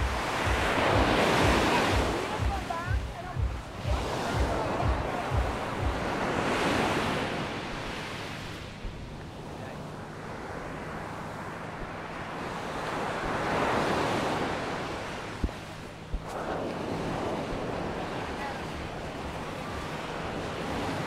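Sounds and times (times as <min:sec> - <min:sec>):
waves breaking on sandy beach: 0:00.0 - 0:21.0
wind on microphone: 0:00.0 - 0:21.0.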